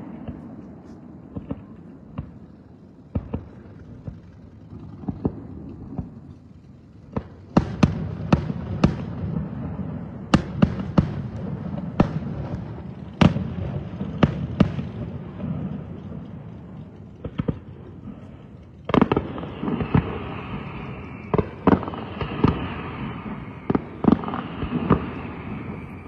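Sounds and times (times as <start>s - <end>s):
fireworks bangs: 0.0s - 6.4s, 7.1s - 26.0s.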